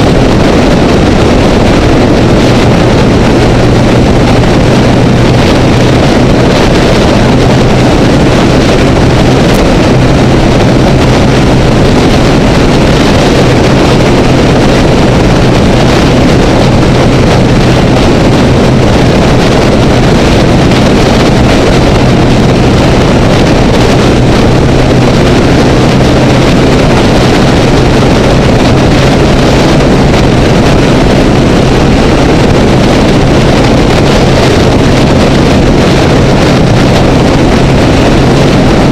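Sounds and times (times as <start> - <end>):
motorcycle engine cruising: 0.0 - 38.9
wind rush: 0.0 - 38.9.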